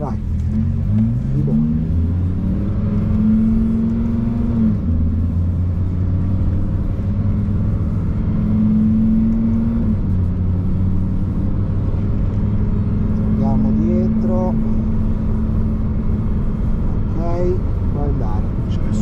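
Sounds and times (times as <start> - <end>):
car engine heard inside cabin: 0.0 - 19.0.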